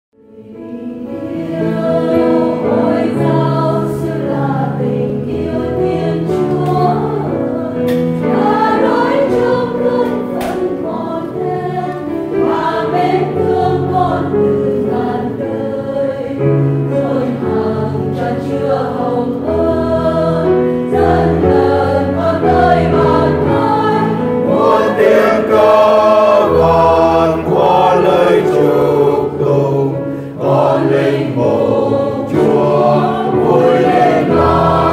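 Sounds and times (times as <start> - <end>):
choir singing a hymn: 0.2 - 34.9
low accompanying notes: 0.4 - 34.9.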